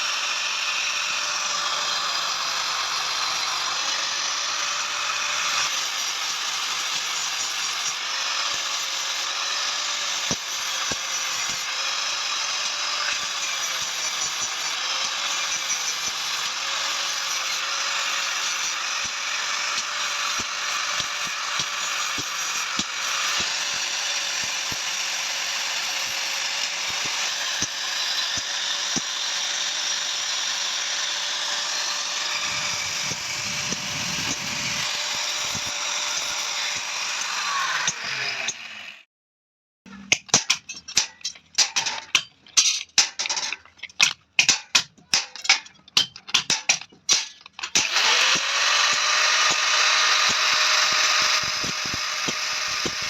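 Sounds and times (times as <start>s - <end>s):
power tool motor running: 0.0s - 39.0s, 47.8s - 53.0s.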